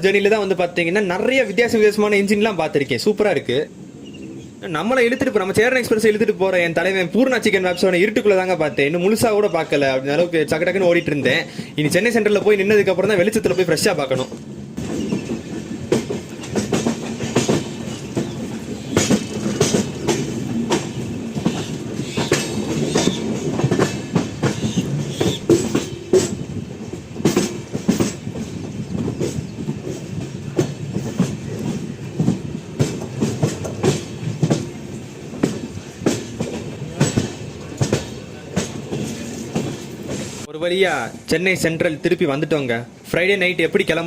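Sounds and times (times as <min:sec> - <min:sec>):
wheels clacking over rail joints: 0:00.0 - 0:40.5
train coach rumbling on rails: 0:00.0 - 0:44.0.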